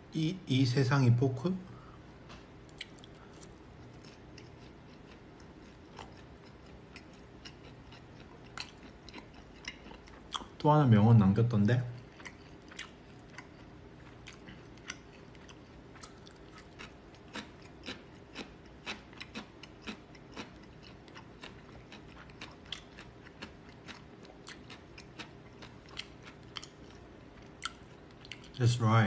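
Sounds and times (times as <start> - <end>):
faint low hum: 0.0 - 29.0
person chewing with wet clicks: 2.6 - 10.6, 11.9 - 28.6.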